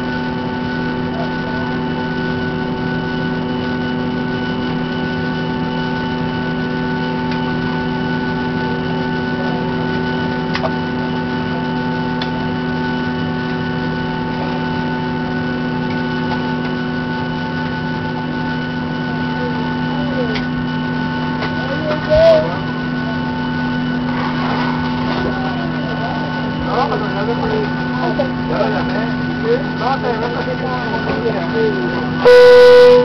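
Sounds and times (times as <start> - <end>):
airliner engines droning: 0.0 - 33.0.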